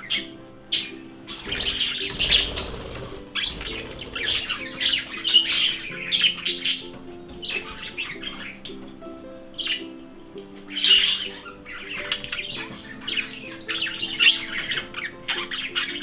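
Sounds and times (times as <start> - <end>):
budgerigars chattering: 0.0 - 8.8, 9.6 - 16.0.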